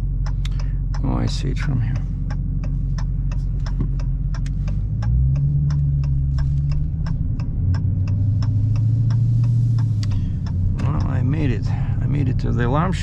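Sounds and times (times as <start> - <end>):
car engine droning: 0.0 - 13.0
turn signal ticking: 0.0 - 13.0.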